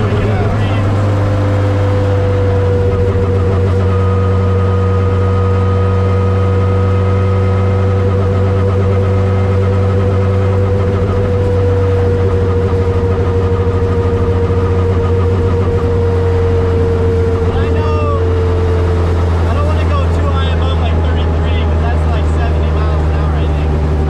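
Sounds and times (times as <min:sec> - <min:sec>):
turbocharged car engine running: 0:00.0 - 0:24.0.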